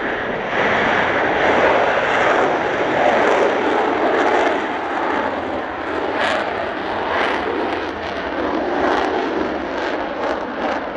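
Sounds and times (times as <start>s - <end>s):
loud jet roar: 0.0s - 10.9s.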